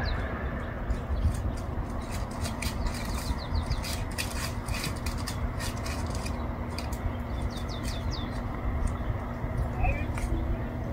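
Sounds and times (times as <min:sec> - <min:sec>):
dry twigs crackling and snapping: 0:00.1 - 0:10.9.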